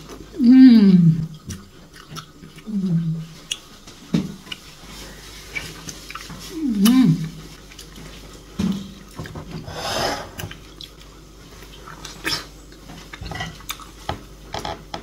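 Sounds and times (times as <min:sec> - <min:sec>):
person chewing wetly: 0:01.0 - 0:09.7, 0:10.3 - 0:14.2.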